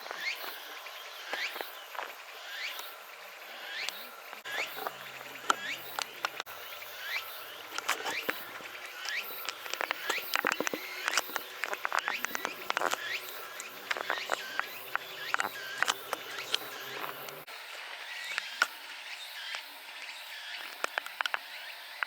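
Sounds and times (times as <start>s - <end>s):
high insect hiss: 0.0s - 22.0s
small birds chirping: 0.0s - 22.0s.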